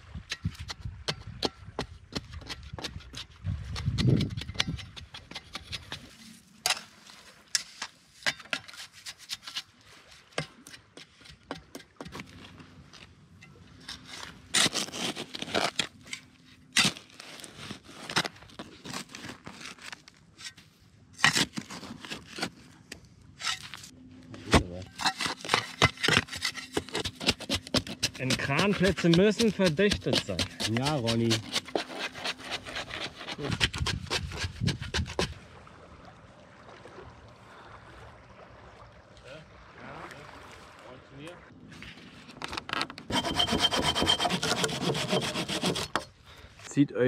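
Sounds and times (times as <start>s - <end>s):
dry wood and brush rustling: 2.0s - 35.4s, 41.6s - 46.7s.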